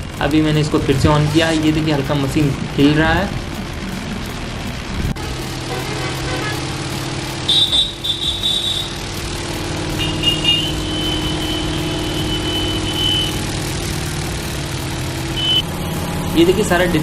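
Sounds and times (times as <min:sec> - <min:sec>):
high-pitched whine: 0:00.0 - 0:17.0
washing machine spin motor humming: 0:00.0 - 0:17.0.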